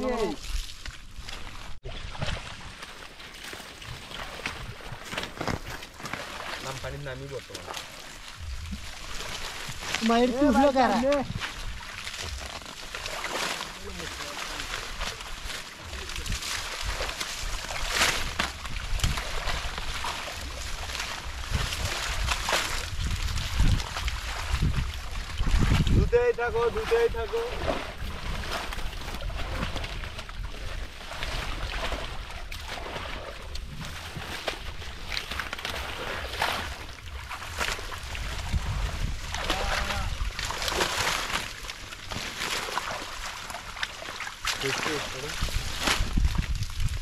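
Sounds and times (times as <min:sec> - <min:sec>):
water splashing and sloshing: 0:00.0 - 0:47.0.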